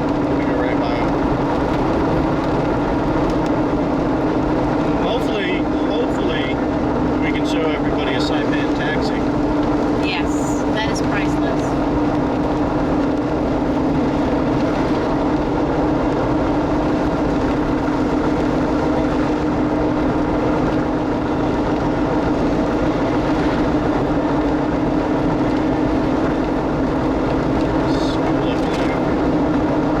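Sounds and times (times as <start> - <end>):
car interior road noise: 0.0 - 30.0
steady low drone: 0.0 - 30.0.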